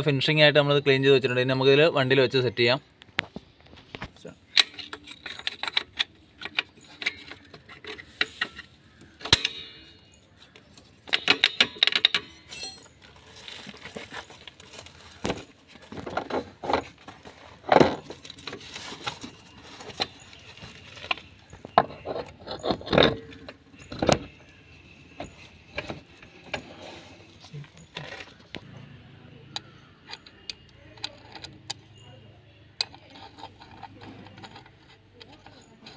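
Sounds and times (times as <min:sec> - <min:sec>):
metal parts and tools clinking: 0:04.4 - 0:28.6, 0:29.5 - 0:35.9.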